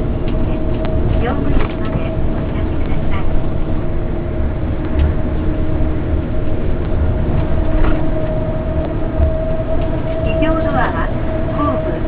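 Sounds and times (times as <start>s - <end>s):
bus engine drone inside cabin: 0.0s - 12.0s.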